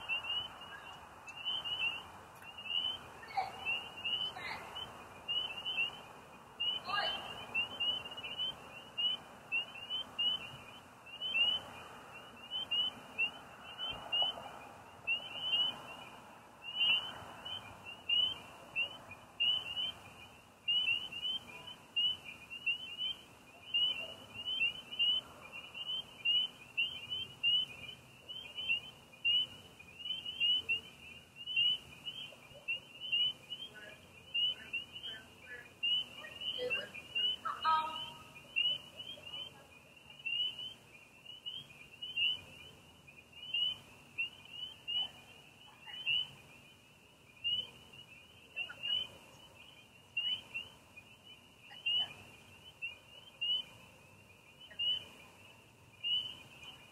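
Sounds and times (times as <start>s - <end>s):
crickets chirping: 0.0s - 56.9s
frogs chirping: 0.0s - 56.9s.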